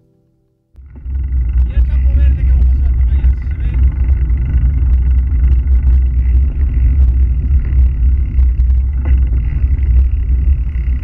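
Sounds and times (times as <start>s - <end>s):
bike rattling over gravel: 0.8s - 11.0s
wind rumble on microphone: 0.8s - 11.0s.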